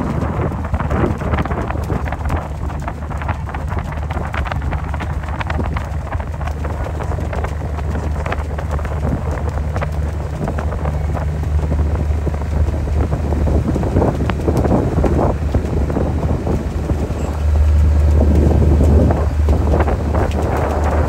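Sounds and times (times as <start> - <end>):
steady low rumble: 0.0 - 21.0
wind buffeting microphone: 0.0 - 21.0.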